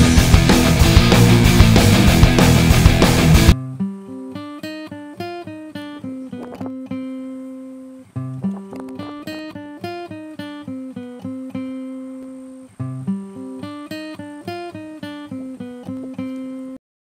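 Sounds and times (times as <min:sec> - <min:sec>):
plucked acoustic guitar melody: 0:00.0 - 0:16.8.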